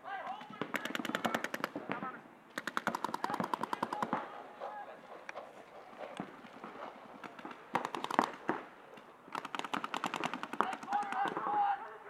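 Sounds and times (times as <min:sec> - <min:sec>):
paintball markers firing: 0:00.3 - 0:04.3, 0:06.0 - 0:11.8.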